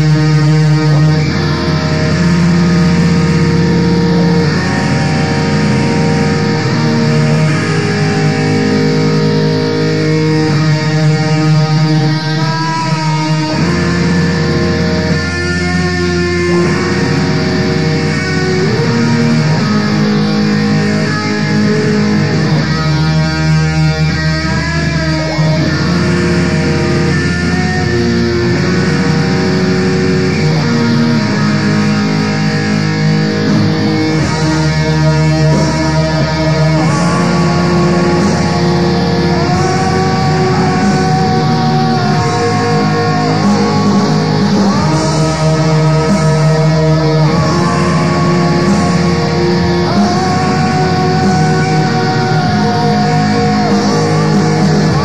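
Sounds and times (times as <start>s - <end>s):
distorted electric guitars: 0.0s - 55.0s
low bass line: 0.0s - 55.0s.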